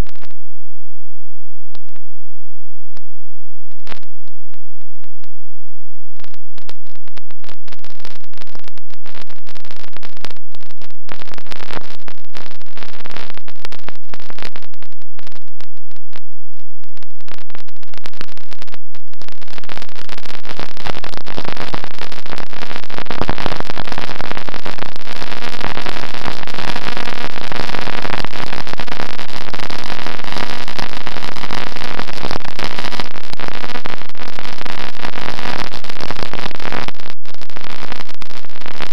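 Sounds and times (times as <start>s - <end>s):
distorted rushing noise: 5.8s - 38.9s.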